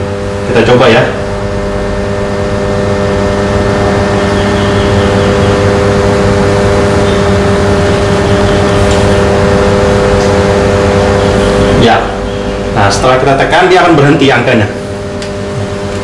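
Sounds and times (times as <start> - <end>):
electrical hum with tones: 0.0 - 16.0.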